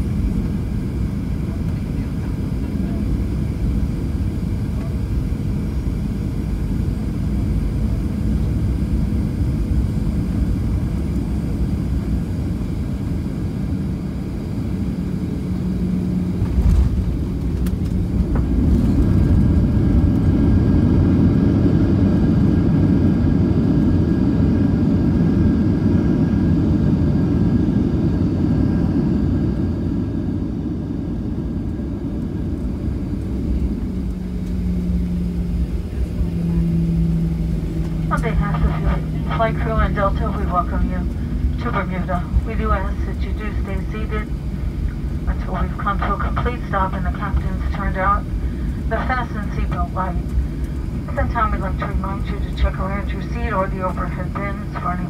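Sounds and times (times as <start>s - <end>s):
airplane engine and airflow rumble: 0.0s - 55.0s.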